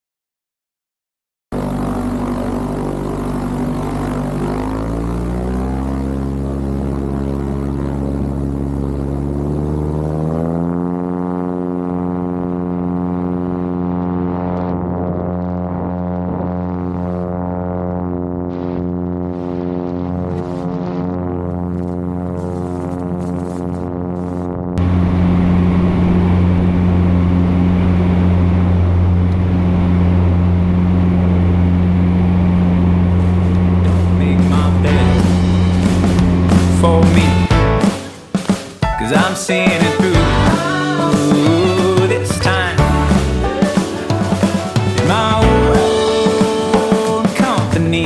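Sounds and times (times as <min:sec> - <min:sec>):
small plane engine and propeller: 0:01.5 - 0:38.6, 0:40.0 - 0:48.0.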